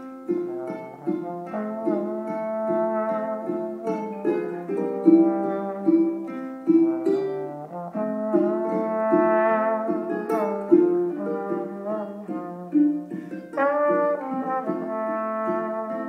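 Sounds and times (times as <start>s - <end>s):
plucked strings accompaniment: 0.0s - 16.0s
trombone sliding melody: 0.0s - 16.0s.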